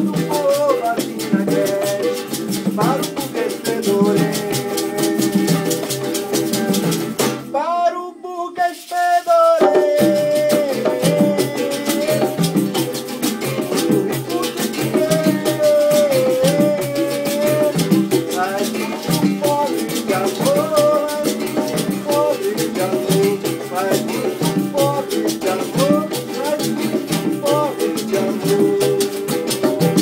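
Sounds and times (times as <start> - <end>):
conga drums: 0.0 - 7.6, 8.7 - 30.0
acoustic guitar: 0.0 - 30.0
berimbau: 0.0 - 30.0
man singing: 0.0 - 30.0
pandeiro: 0.0 - 30.0.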